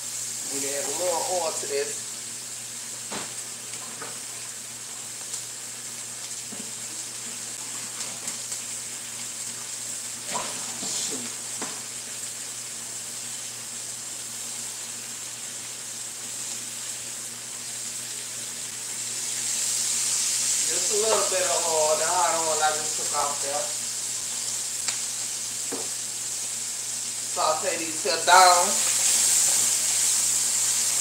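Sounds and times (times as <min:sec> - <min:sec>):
vegetables sizzling in a wok: 0:00.0 - 0:31.0.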